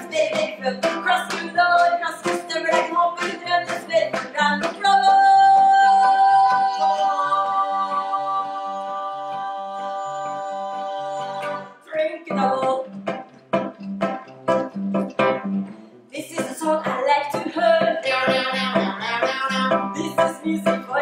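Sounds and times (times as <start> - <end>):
vocal group singing in harmony: 0.0 - 12.8, 16.2 - 21.0.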